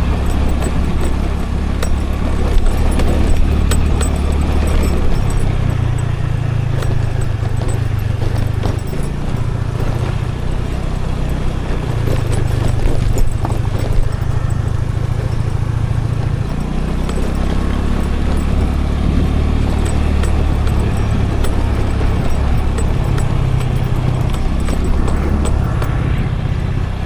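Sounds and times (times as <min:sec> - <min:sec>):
small knocks: 0:00.0 - 0:26.6
road and wind noise: 0:00.0 - 0:27.0
scooter engine running: 0:00.0 - 0:27.0.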